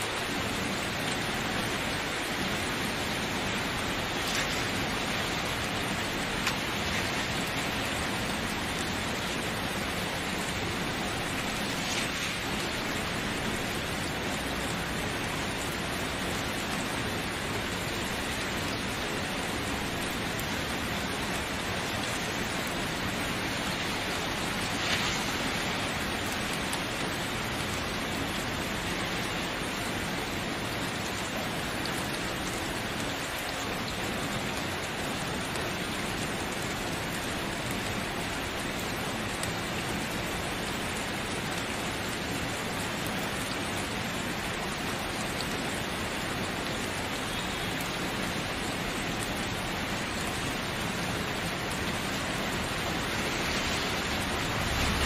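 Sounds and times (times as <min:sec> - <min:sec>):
louder raindrops: 0:00.0 - 0:55.0
rain hissing: 0:00.0 - 0:55.0.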